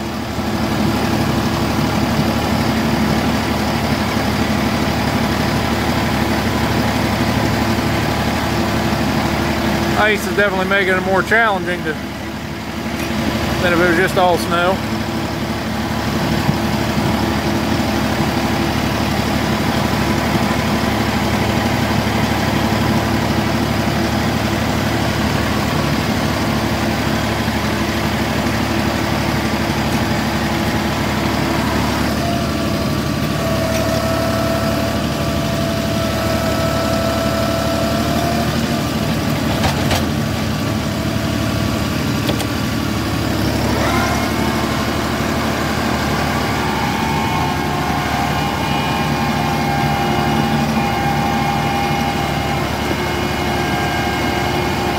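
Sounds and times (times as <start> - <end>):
hydraulic whine: 0.0 - 54.9
tractor engine running: 0.0 - 54.9.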